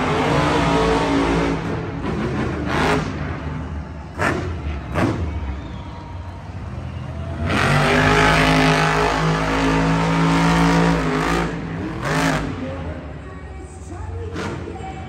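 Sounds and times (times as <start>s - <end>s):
monster truck engine revving: 0.0s - 13.2s, 14.2s - 15.0s.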